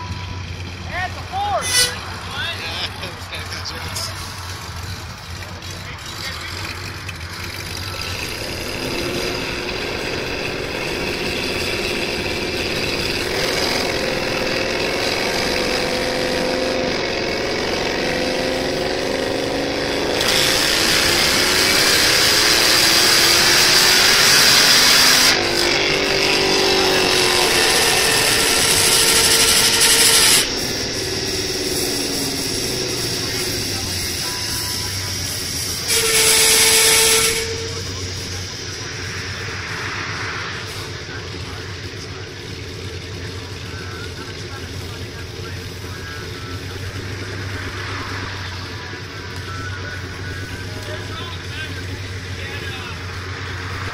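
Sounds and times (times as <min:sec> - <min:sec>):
engine revving under load: 0:00.0 - 0:53.9.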